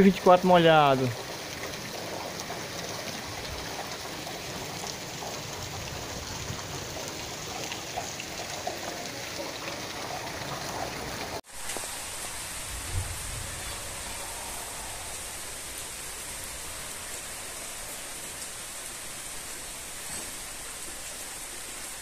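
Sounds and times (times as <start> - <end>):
heavy rain on wet ground: 0.0 - 22.0.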